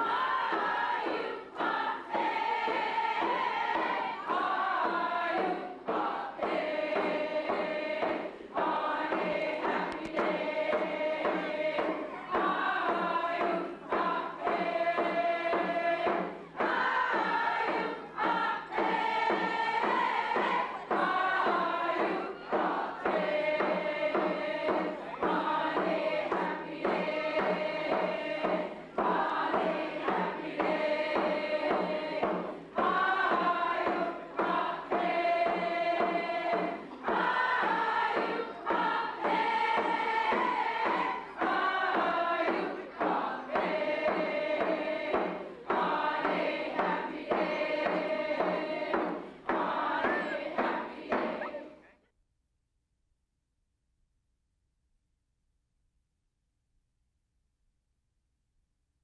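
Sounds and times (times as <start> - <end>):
choir singing with music: 0.0 - 51.9.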